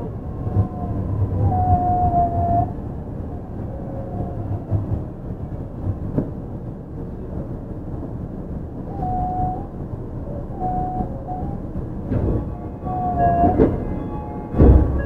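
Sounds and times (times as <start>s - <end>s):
monorail running rumble: 0.0s - 15.0s.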